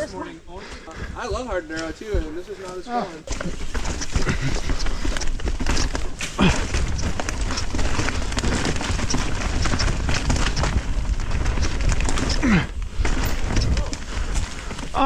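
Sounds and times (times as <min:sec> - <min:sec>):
bike clattering over rough trail: 0:01.6 - 0:15.0.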